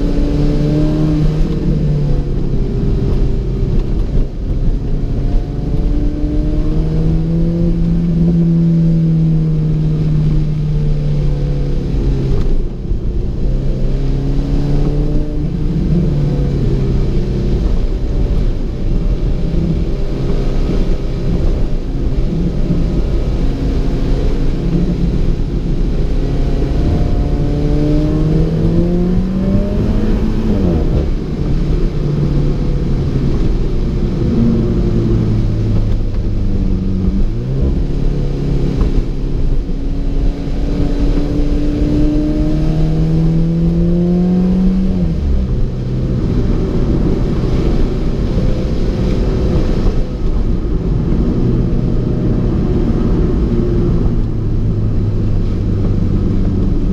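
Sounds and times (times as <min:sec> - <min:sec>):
car engine accelerating: 0:00.0 - 0:56.9
tyres rumbling on wet road: 0:00.0 - 0:56.9.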